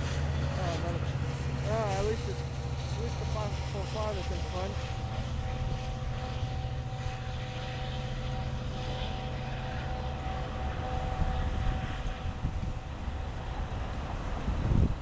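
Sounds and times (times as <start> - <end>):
distant train passing: 0.0 - 15.0
steady whine: 0.0 - 15.0.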